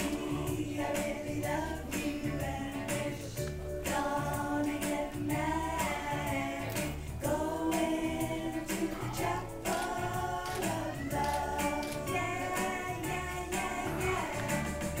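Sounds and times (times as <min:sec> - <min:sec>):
music with singing voices: 0:00.0 - 0:15.0.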